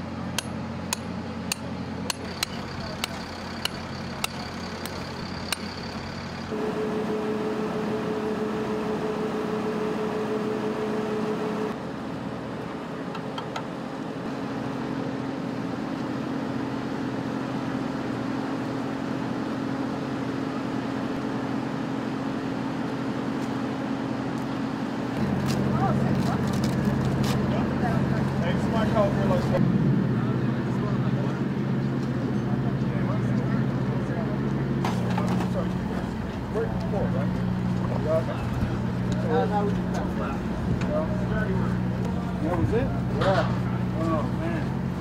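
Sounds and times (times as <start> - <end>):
engine hum: 0.0 - 45.0.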